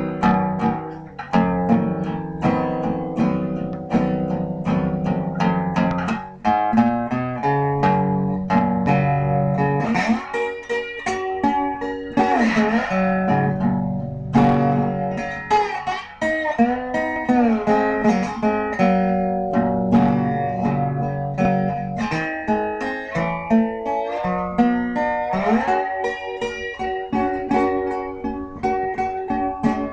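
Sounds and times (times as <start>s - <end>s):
bluesy guitar playing: 0.0s - 29.9s.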